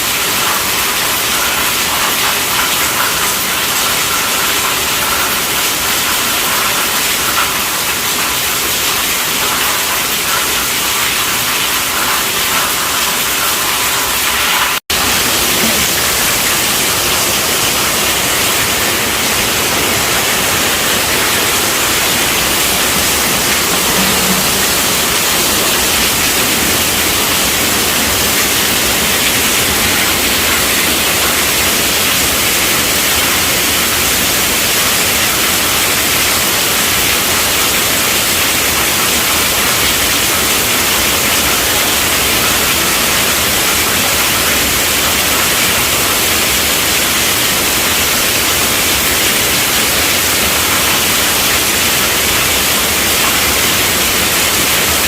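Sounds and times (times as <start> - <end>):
heavy rain drumming on a tent: 0.0 - 55.0.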